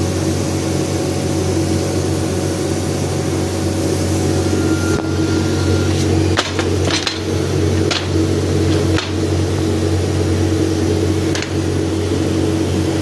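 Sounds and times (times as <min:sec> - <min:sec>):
laser cutting machine hum: 0:00.0 - 0:13.0.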